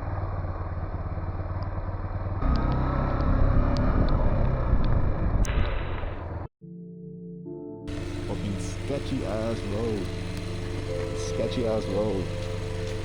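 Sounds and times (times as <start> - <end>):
motorbike engine: 0.0 - 6.5, 7.9 - 13.0
road noise: 0.0 - 6.5, 7.9 - 13.0.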